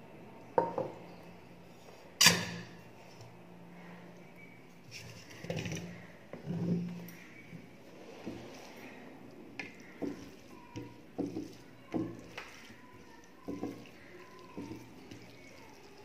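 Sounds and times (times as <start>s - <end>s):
soft wet squishes of rice: 2.8s - 16.0s.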